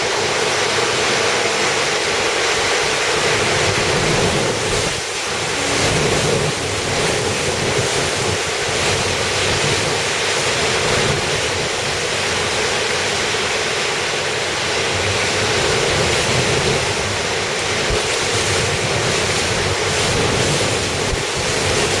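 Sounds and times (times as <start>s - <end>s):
wind and driving rain: 0.0s - 22.0s
wind buffeting microphone: 0.0s - 22.0s.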